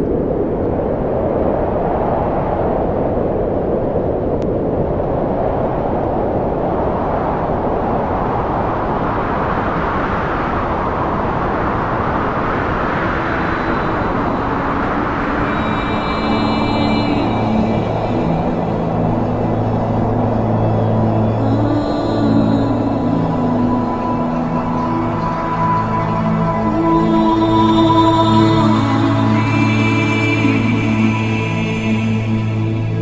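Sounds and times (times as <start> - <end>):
steady rushing rumble: 0.0 - 33.0.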